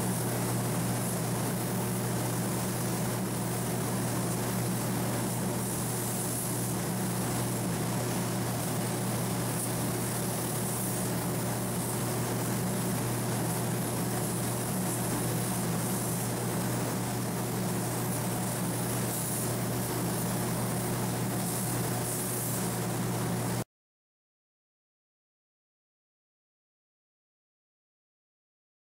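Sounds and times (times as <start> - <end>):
spray gun hissing: 0.0 - 23.6.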